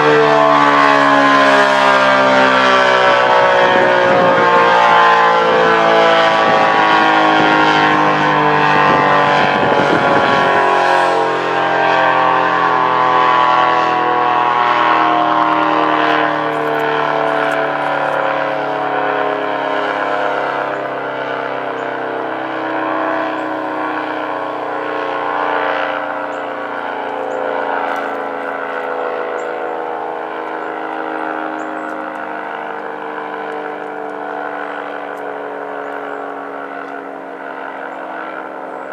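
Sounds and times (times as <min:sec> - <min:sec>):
warning siren winding down: 0:00.0 - 0:38.9.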